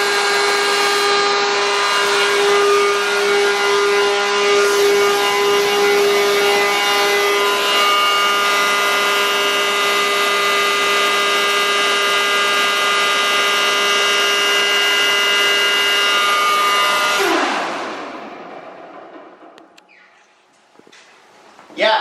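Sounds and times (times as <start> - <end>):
siren blower whining: 0.0 - 20.4.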